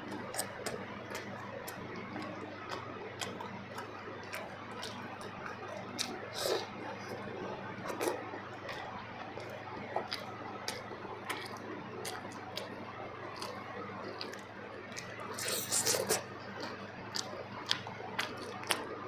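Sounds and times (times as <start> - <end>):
person chewing soft food: 0.0 - 19.0.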